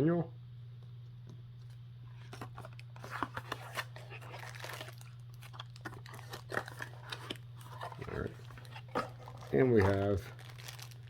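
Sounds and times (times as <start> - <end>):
steady low hum: 0.0 - 11.0
packaging crinkling and rustling: 2.1 - 11.0.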